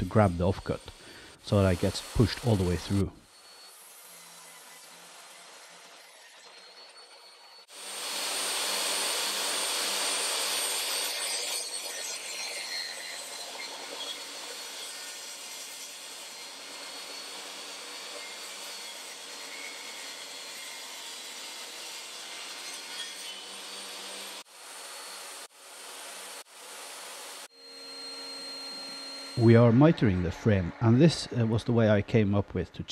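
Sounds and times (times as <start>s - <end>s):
table saw ripping a board: 0.0s - 29.4s.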